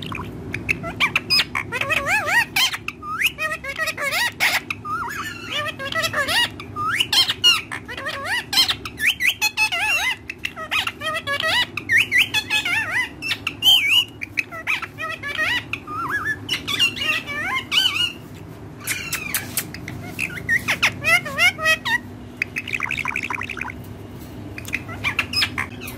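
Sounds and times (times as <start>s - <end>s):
parakeets chattering and squawking: 0.0s - 25.9s.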